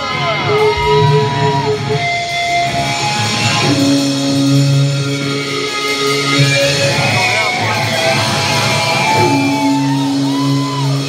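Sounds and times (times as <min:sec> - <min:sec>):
electric guitars sustained notes: 0:00.0 - 0:11.0.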